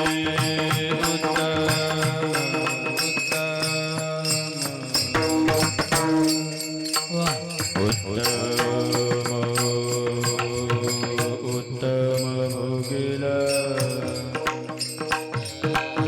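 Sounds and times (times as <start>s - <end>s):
hand cymbals striking a beat: 0.0s - 16.0s.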